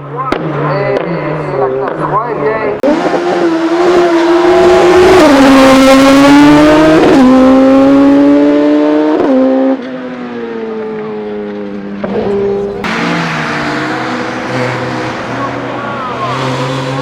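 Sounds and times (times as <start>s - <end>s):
race car engine accelerating: 2.8s - 17.0s.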